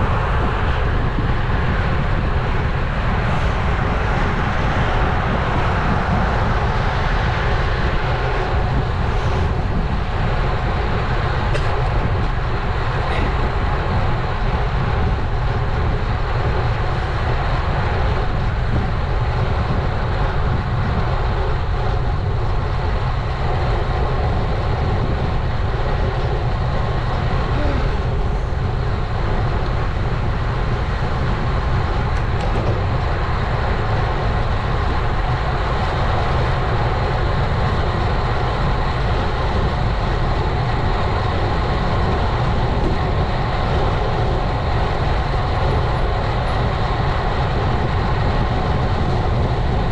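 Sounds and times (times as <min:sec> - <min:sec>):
bike tyre and road noise: 0:00.0 - 0:49.9
wind rumble on microphone: 0:00.0 - 0:49.9.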